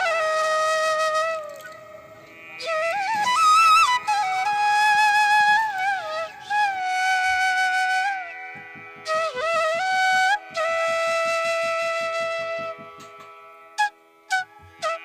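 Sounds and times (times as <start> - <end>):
flute slow melody: 0.0 - 15.0.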